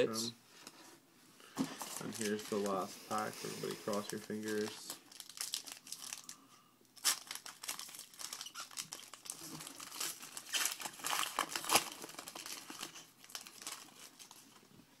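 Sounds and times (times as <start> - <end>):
foil wrapper crinkling and tearing: 1.8 - 2.9, 3.6 - 14.6.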